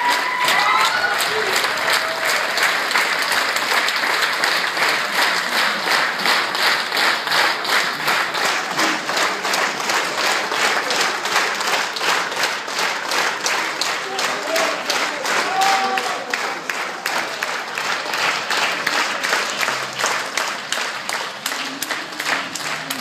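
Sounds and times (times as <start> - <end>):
audience clapping in unison: 0.0 - 23.0.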